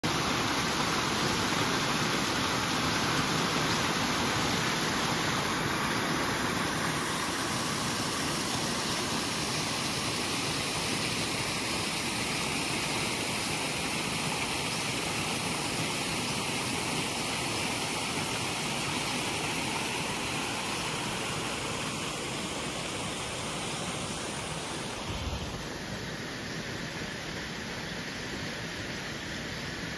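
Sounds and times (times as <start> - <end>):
waterfall rushing over rocks: 0.0 - 29.9.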